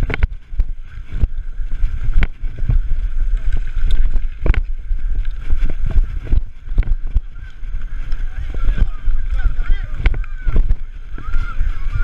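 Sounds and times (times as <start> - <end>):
bike knocking and rattling: 0.0 - 12.0
bike tyres rolling on dirt: 0.0 - 12.0
wind buffeting: 0.0 - 12.0.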